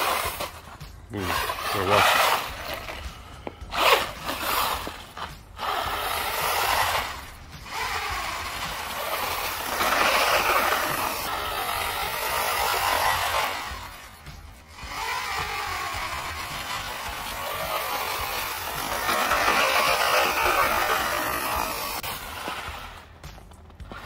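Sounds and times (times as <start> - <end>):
toy car electric motor whirring: 0.0 - 24.0.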